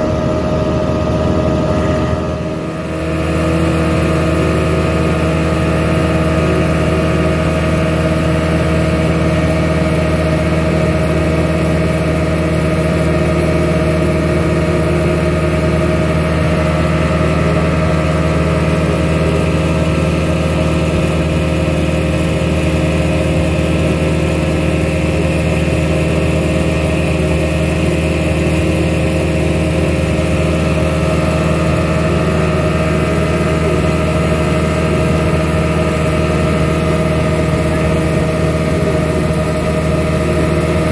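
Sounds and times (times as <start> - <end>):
speedboat engine drone: 0.0 - 40.9.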